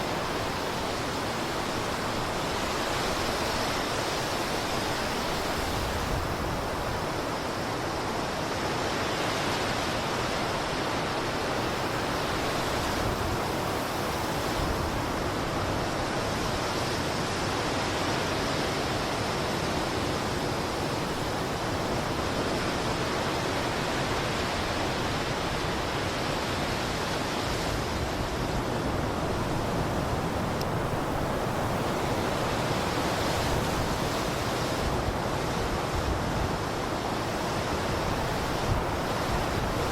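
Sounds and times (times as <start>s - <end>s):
blizzard wind roaring hiss: 0.0s - 39.9s.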